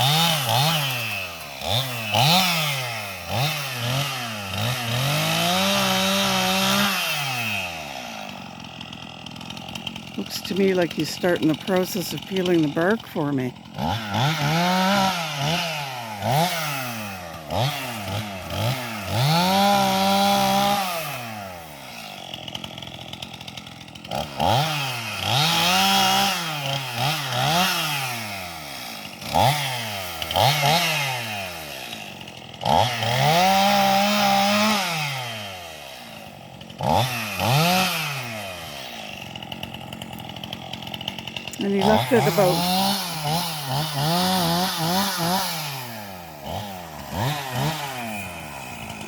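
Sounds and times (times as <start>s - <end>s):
chainsaw revving: 0.0s - 49.0s.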